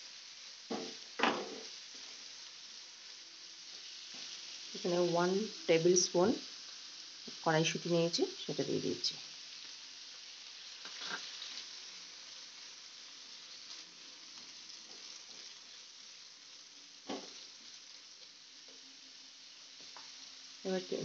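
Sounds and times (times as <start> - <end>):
spatula stirring in a pan: 0.0 - 7.6, 9.2 - 20.7
masala sizzling in oil: 0.0 - 21.0.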